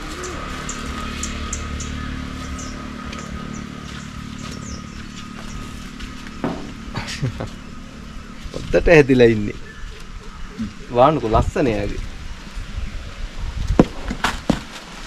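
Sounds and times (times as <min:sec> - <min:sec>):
motor humming: 0:00.0 - 0:13.6.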